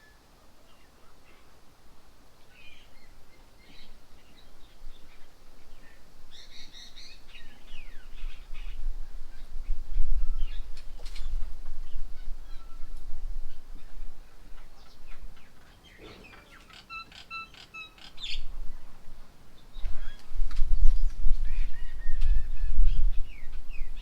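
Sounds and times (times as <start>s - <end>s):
birds chirping: 2.4s - 24.0s.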